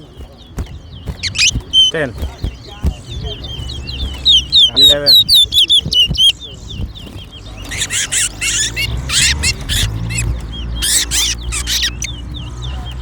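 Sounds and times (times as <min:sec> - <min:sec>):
bird chirps: 0:00.0 - 0:13.0
songbird warbling song: 0:00.0 - 0:13.0.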